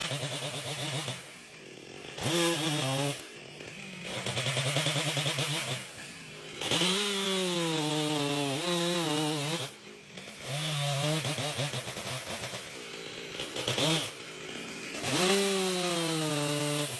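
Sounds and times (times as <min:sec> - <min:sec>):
chainsaw engine revving: 0:00.0 - 0:16.9.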